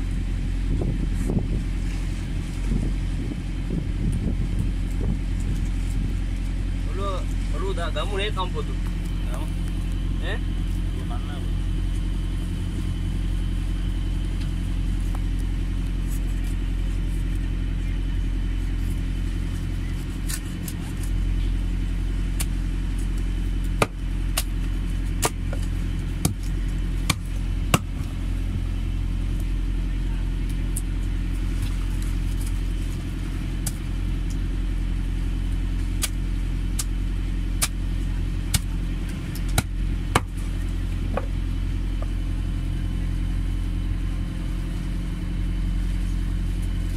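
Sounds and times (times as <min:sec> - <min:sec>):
low motor drone: 0:00.0 - 0:46.9.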